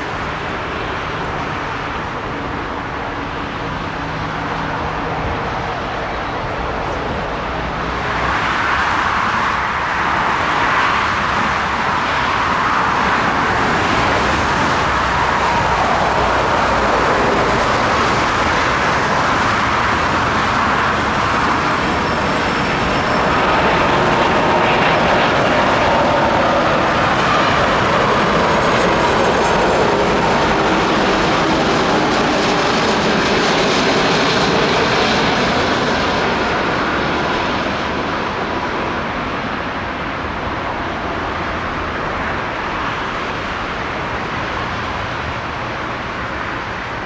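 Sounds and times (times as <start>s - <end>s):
jet engine rushing: 0.0s - 47.0s.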